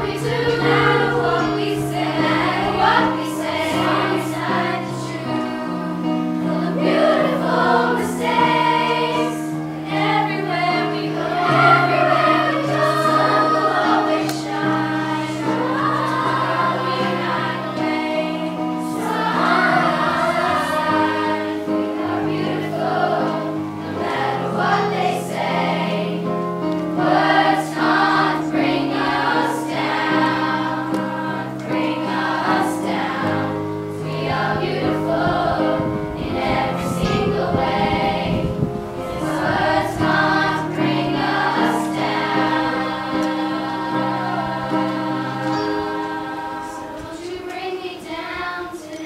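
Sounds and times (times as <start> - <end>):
choir singing: 0.0 - 49.0.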